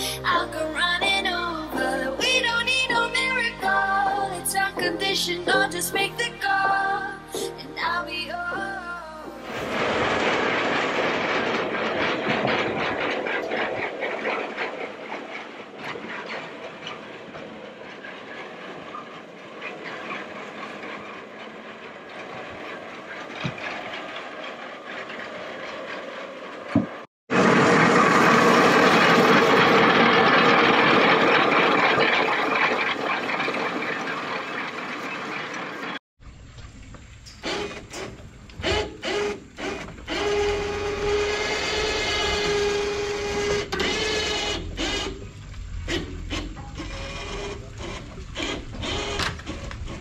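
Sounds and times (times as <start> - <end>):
crane gears rattling: 0.0 - 50.0.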